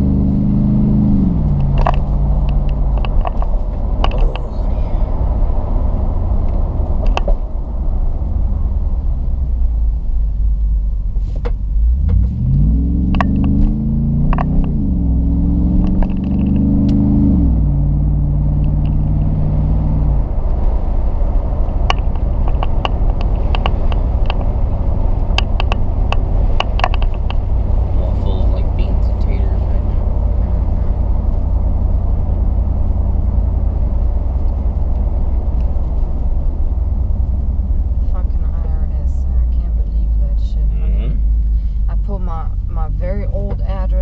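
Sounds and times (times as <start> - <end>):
car exhaust accelerating: 0.0 - 44.0
low road rumble: 0.0 - 44.0.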